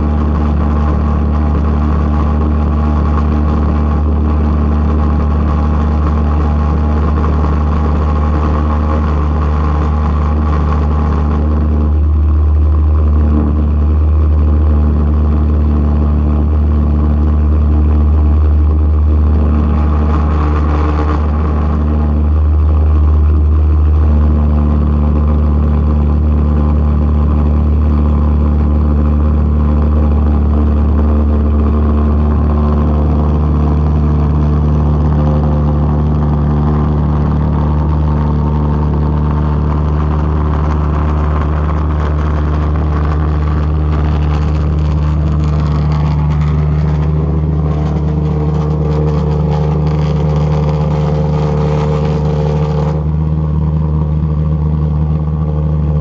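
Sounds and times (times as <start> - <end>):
pulsejet engine drone: 0.0 - 56.0.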